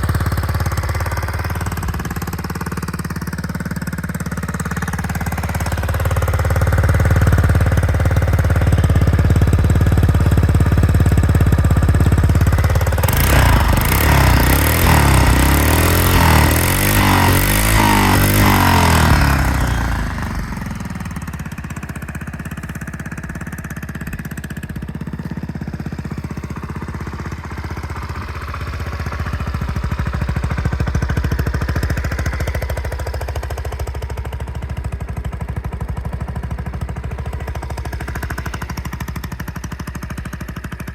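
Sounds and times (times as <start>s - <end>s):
scooter engine idling and revving: 0.0s - 40.9s.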